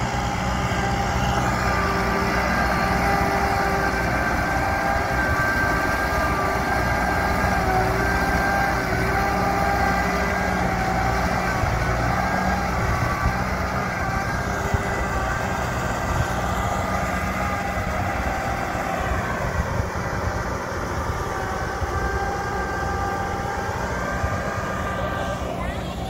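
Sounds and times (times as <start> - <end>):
diesel engine rumbling with whine: 0.0 - 26.0.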